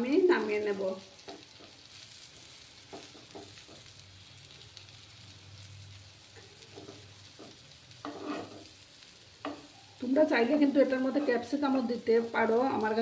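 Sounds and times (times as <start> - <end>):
pancakes sizzling in oil: 0.0 - 13.0.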